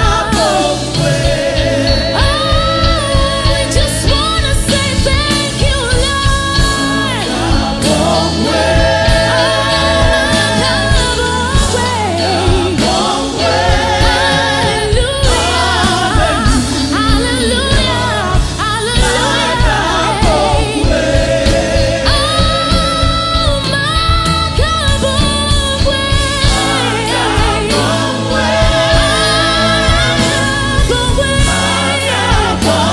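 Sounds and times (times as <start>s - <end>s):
gospel choir singing: 0.0s - 32.9s
instrumental backing with bass line: 0.0s - 32.9s.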